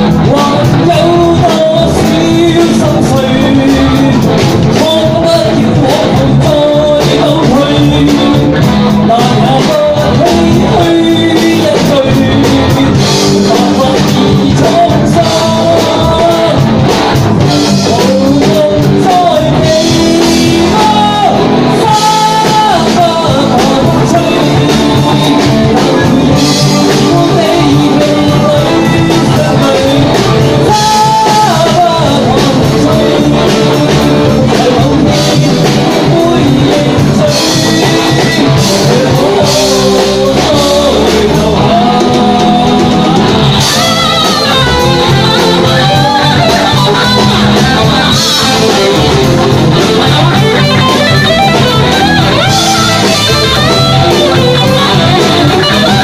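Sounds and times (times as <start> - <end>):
drum kit: 0.0 - 56.0
electric bass: 0.0 - 56.0
electric guitar: 0.0 - 56.0
man singing into a microphone: 0.0 - 56.0.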